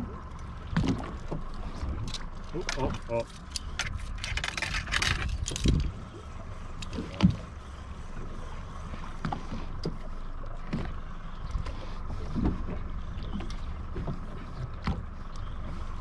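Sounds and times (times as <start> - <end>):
knocks and clicks on boat: 0.0 - 16.0
water noise: 0.0 - 16.0
wind: 0.0 - 16.0.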